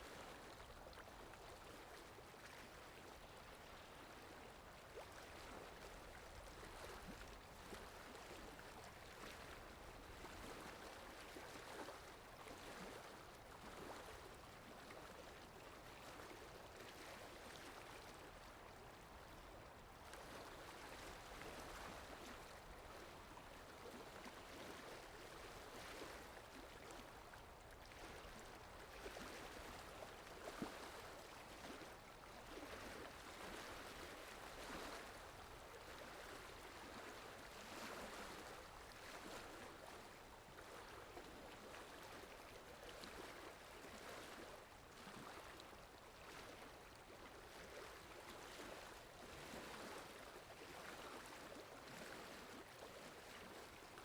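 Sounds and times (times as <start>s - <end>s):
faint flowing water: 0.0s - 54.0s.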